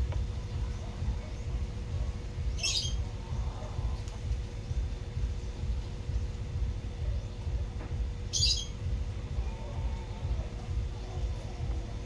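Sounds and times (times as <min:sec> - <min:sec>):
car engine rumbling: 0:00.0 - 0:12.0
faint steady whine: 0:00.0 - 0:12.0.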